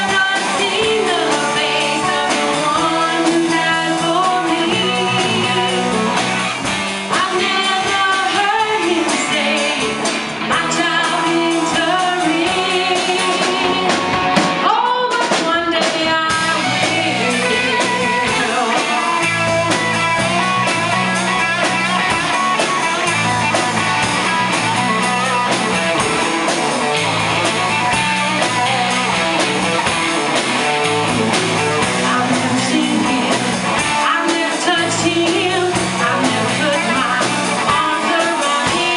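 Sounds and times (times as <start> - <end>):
vocal group singing: 0.0 - 20.8, 27.8 - 38.9
live rock band playing: 0.0 - 38.9.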